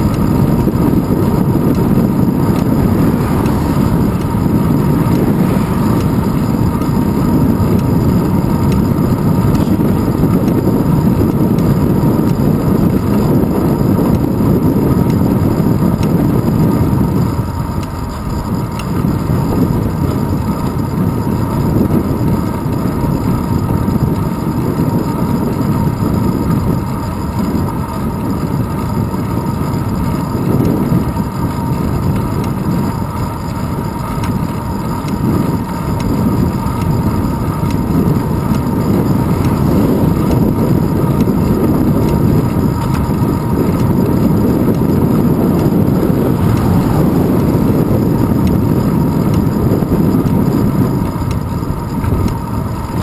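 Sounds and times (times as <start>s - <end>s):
bicycle tyres humming on asphalt: 0.0s - 53.0s
wind rumbling on microphone: 0.0s - 53.0s.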